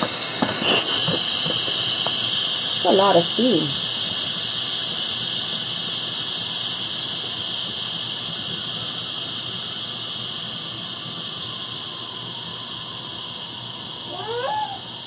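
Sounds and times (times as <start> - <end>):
steam hissing from valve: 0.0 - 15.0.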